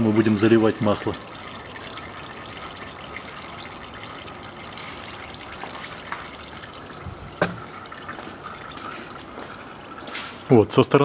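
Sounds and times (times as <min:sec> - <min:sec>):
fluid trickling from drain hole: 0:00.0 - 0:11.0.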